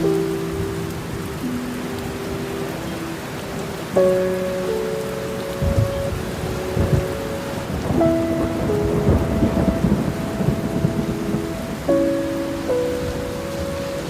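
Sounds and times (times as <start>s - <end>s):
heavy rain: 0.0s - 14.0s
soft sustained music chords: 0.0s - 14.0s
thunder rumbling: 0.0s - 14.0s.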